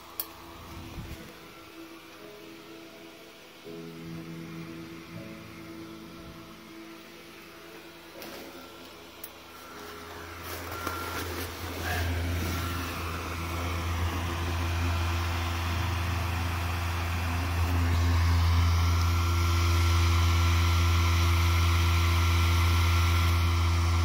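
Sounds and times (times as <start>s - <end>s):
electric blower fan humming: 0.0s - 24.0s.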